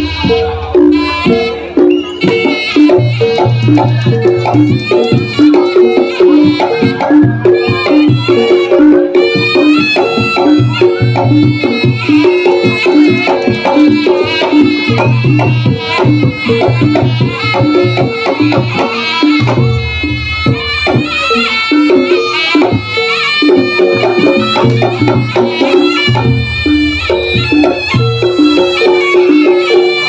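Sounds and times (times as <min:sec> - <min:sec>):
hand drums beating: 0:00.0 - 0:30.0
wavering high melody: 0:00.0 - 0:30.0.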